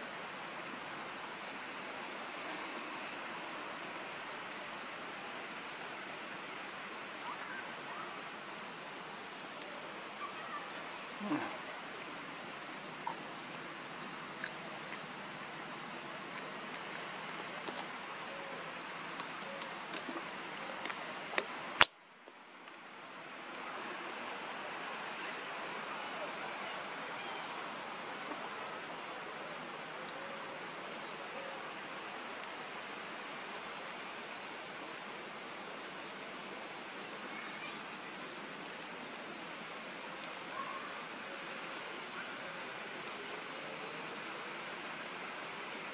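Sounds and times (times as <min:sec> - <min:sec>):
insect chorus buzzing: 0:00.0 - 0:21.9, 0:23.1 - 0:45.9.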